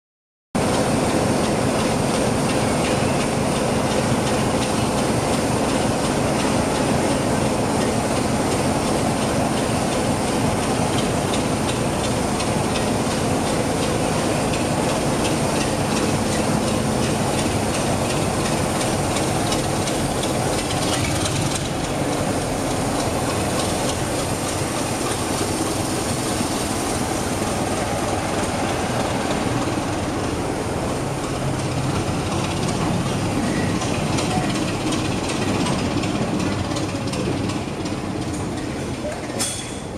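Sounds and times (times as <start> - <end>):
diesel locomotive engine running: 0.6 - 39.9.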